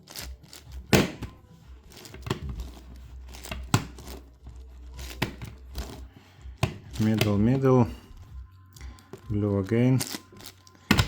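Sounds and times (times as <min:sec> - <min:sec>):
puzzle cube clicking and scraping: 0:00.0 - 0:07.6, 0:09.0 - 0:11.0.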